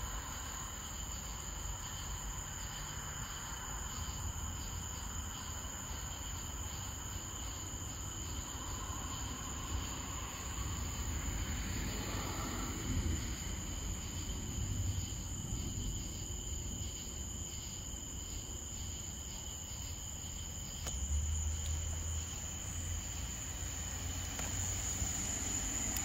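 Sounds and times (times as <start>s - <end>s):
crickets and insects trilling: 0.0s - 26.0s.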